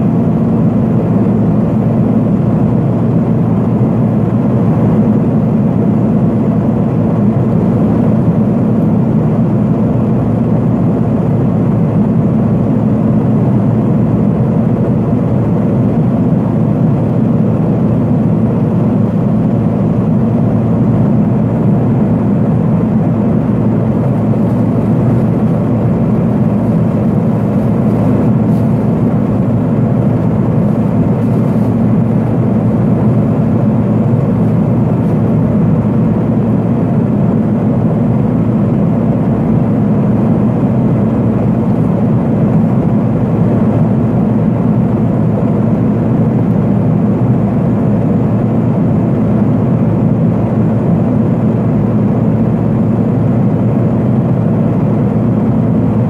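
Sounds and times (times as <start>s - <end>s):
turboprop engine drone in cabin: 0.0s - 56.0s.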